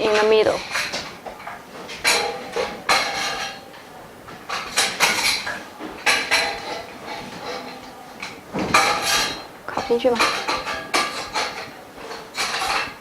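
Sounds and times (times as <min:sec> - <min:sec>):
metal frame parts clinking: 0:00.0 - 0:13.0.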